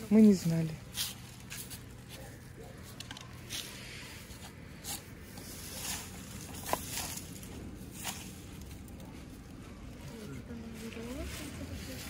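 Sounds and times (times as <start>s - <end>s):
broom sweeping dry leaves: 0.0s - 12.0s.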